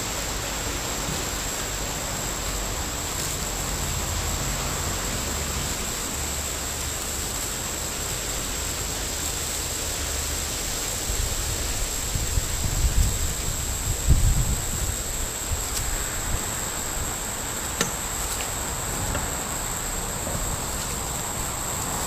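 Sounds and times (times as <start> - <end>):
outdoor background hiss: 0.0 - 22.0
thin high whine: 0.0 - 22.0.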